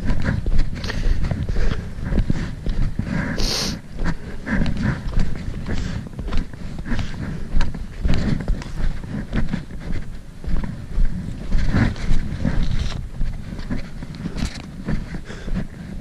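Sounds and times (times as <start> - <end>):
footsteps crunching through snow: 0.0 - 16.0
low rumble: 0.0 - 16.0.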